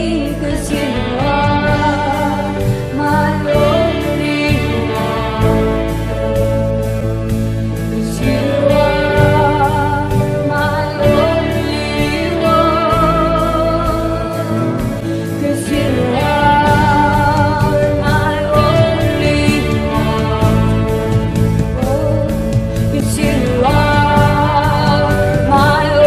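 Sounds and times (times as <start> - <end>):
instrumental accompaniment with beat: 0.0 - 26.0.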